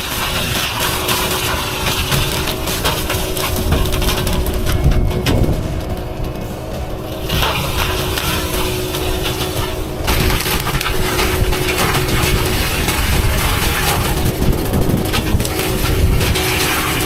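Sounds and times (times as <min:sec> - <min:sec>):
machinery engine drone: 0:00.0 - 0:17.0
wood cracking and splintering: 0:00.0 - 0:17.0.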